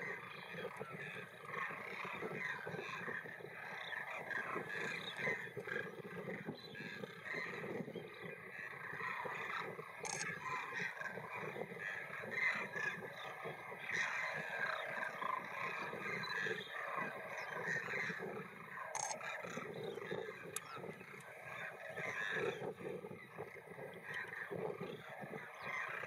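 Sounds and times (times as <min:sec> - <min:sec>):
flock of cranes calling: 0:00.0 - 0:26.0.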